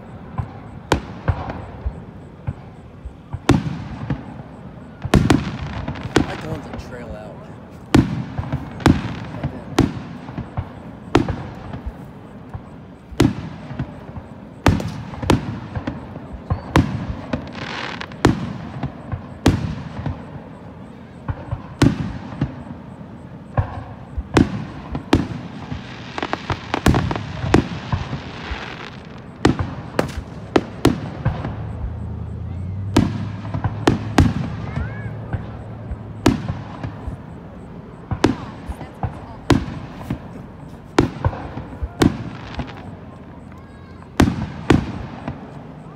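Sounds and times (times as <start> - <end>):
firework shells booming: 0.0 - 45.9
hissing crackle of fireworks: 0.0 - 45.9.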